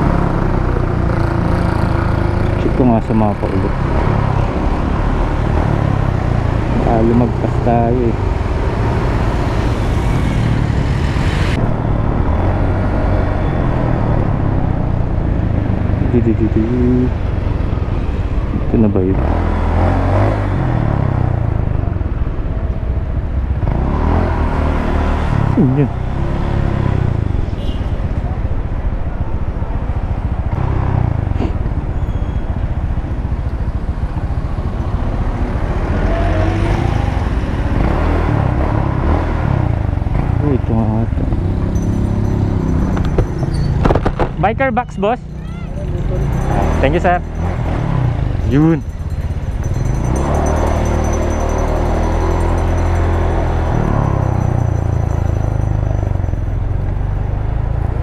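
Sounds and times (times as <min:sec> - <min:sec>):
motorcycle engine rumble: 0:00.0 - 0:19.5, 0:25.4 - 0:58.0.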